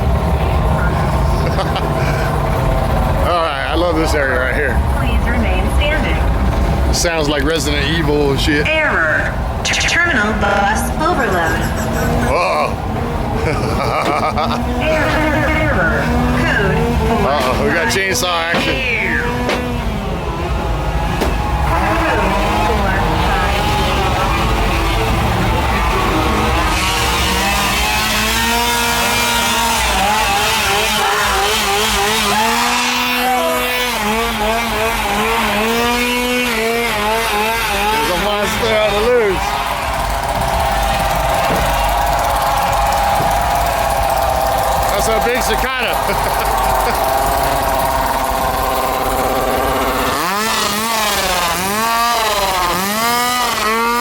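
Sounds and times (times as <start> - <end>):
chainsaw engine revving: 10.5 - 54.0.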